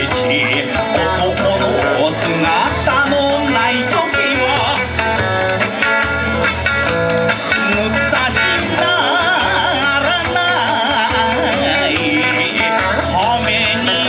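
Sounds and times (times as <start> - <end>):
plucked string instruments: 0.0 - 14.0
steady drum beat: 0.0 - 14.0
wavering melody line: 0.0 - 14.0.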